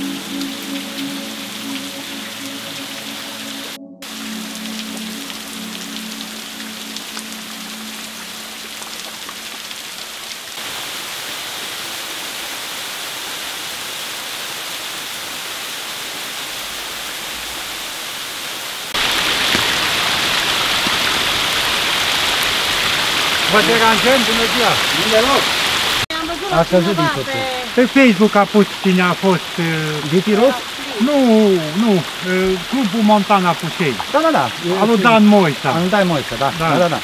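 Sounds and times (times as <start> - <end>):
waterfall splashing and dripping: 0.0 - 37.0.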